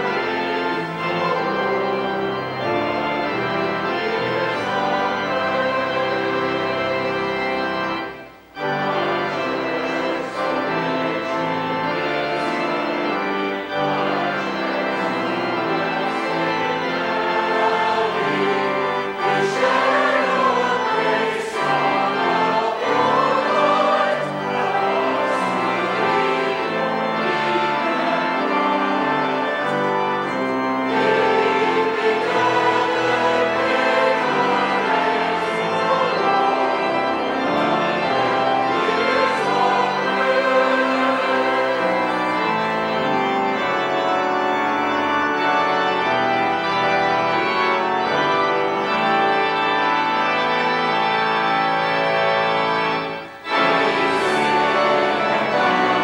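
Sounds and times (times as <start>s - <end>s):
choir singing a hymn: 0.0s - 56.0s
organ accompaniment: 0.0s - 56.0s.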